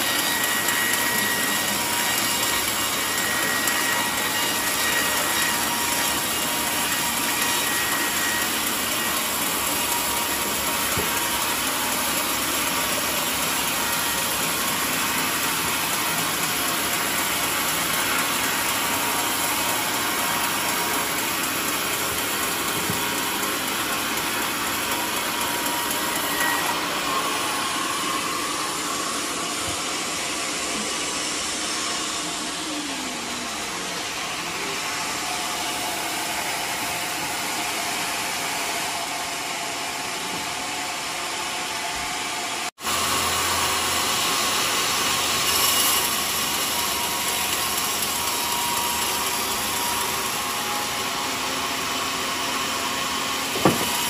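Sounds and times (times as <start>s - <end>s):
band saw cutting timber: 0.0s - 54.0s.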